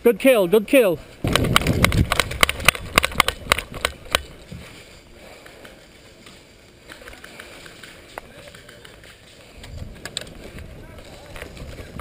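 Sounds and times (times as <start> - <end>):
gear rattling against camera: 1.2 - 12.0.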